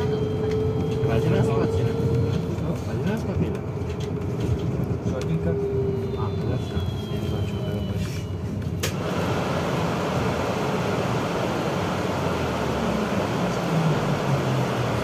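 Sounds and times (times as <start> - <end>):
trolleybus cabin hum: 0.0 - 15.0.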